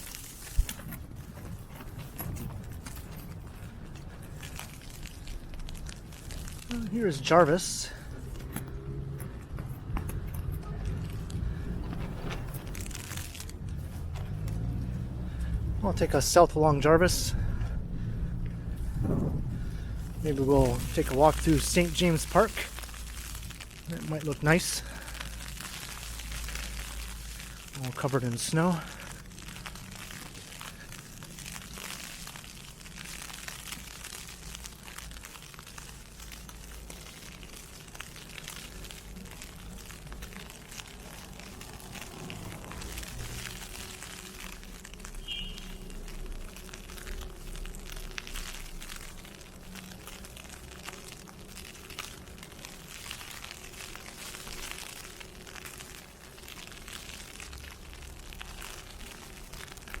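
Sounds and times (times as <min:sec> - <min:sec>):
footsteps crunching in snow: 0:00.0 - 1:00.0
ice pellets ticking on umbrella: 0:00.0 - 1:00.0.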